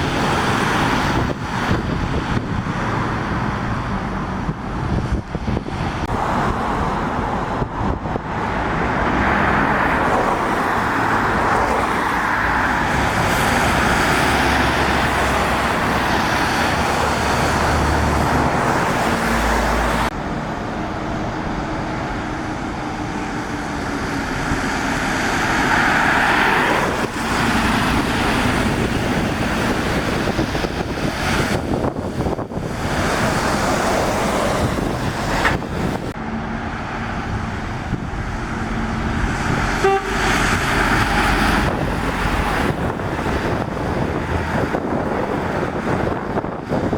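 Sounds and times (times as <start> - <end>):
diesel engines droning: 0.0 - 46.9
tyres hissing on wet road: 8.2 - 37.2, 37.8 - 46.9.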